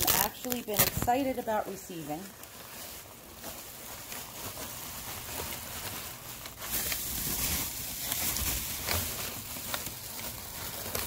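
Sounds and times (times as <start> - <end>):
packing materials rustling and crinkling: 0.0 - 11.0.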